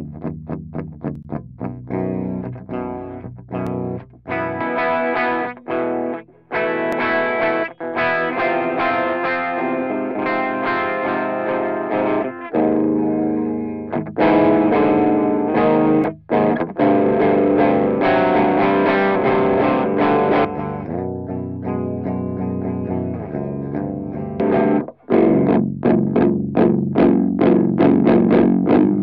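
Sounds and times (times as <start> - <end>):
distorted electric guitar riff: 0.0 - 29.0.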